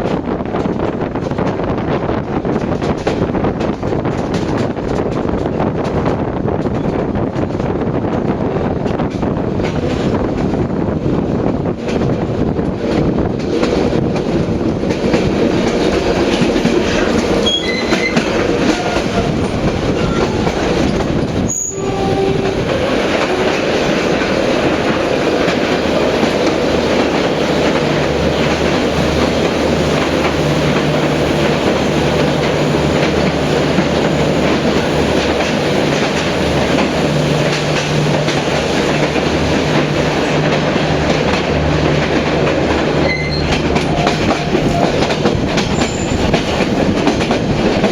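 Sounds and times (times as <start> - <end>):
train wheels rattling on rails: 0.0 - 47.9.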